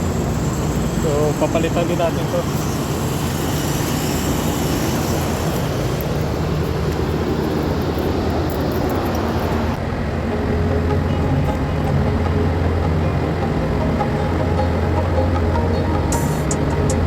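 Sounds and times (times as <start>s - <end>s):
fan noise: 0.0s - 17.0s.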